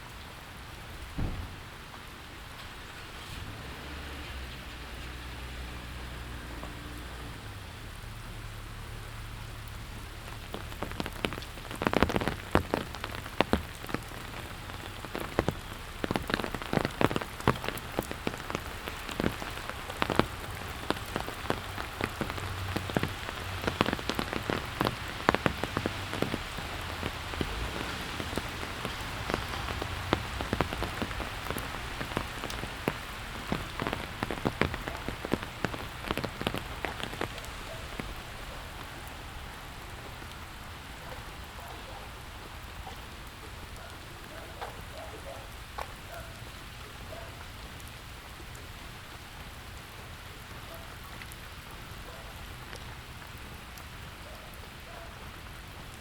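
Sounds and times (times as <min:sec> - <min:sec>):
raindrops and drips landing: 0:00.0 - 0:56.0
steady rain: 0:00.0 - 0:56.0.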